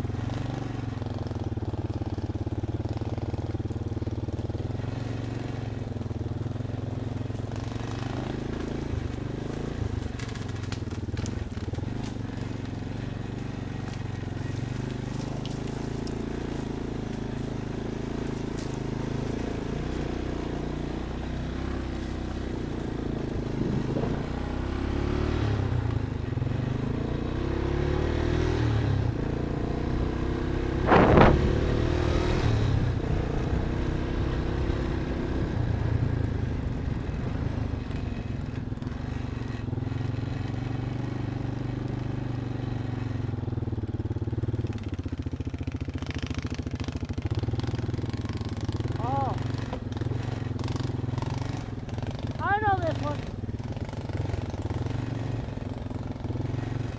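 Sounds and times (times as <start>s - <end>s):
off-road vehicle engine running: 0.0s - 56.9s.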